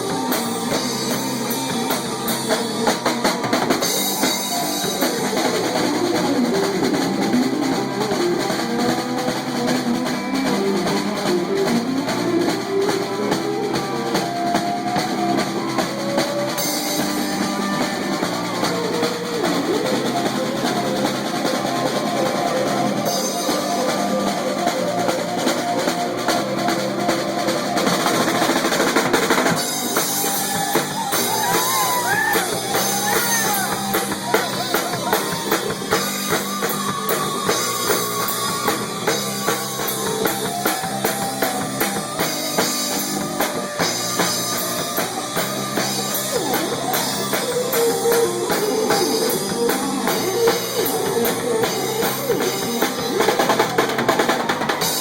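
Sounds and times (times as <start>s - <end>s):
drum kit beat: 0.0s - 55.0s
electric guitar solo: 0.0s - 55.0s.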